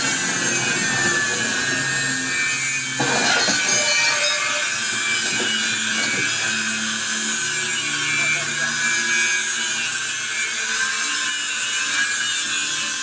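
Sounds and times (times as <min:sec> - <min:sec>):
power tool grinding metal: 0:00.0 - 0:13.0.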